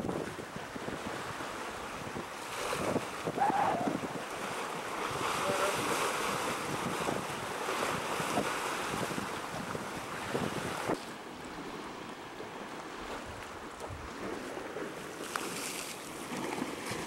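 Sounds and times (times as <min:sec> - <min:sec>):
wind on microphone: 0:00.0 - 0:11.0, 0:13.0 - 0:17.0
sea waves washing on shore: 0:00.0 - 0:17.0.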